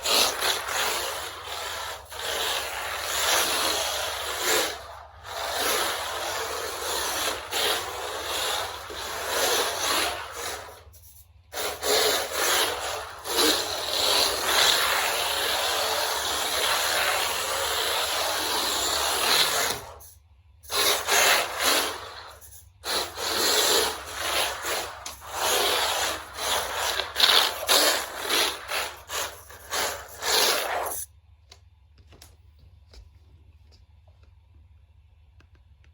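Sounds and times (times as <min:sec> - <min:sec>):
rc car rolling on plastic tires: 0:00.0 - 0:31.1.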